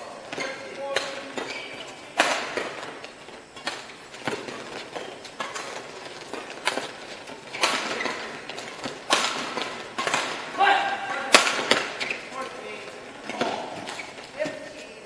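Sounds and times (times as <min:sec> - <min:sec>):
rackets striking shuttlecock: 0:00.3 - 0:14.6.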